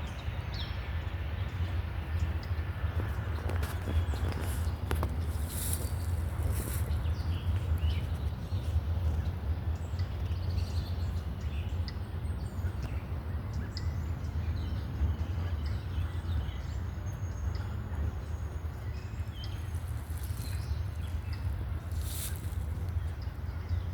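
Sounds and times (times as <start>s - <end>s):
steady low rumble: 0.0s - 23.9s.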